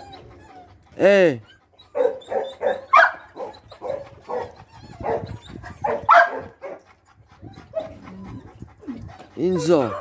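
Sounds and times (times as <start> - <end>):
dogs barking: 1.9 - 10.0.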